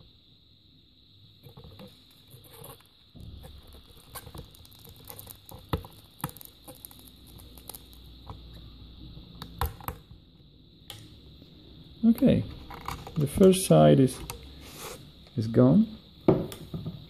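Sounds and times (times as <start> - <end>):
solder crackling and sizzling: 0.0 - 17.0.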